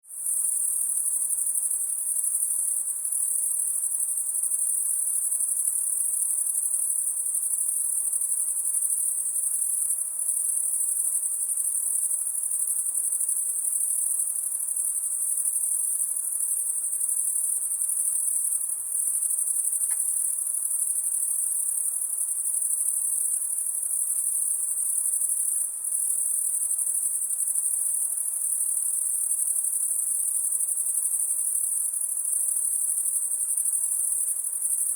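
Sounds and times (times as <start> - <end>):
night insects chorus: 0.2 - 34.9.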